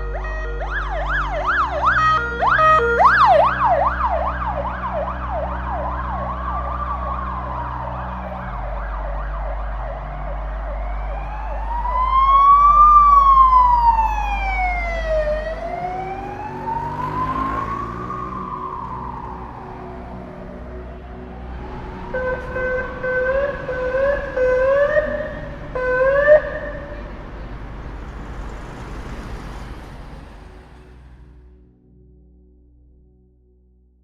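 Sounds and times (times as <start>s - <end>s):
police siren yelp and wail: 0.0s - 27.2s.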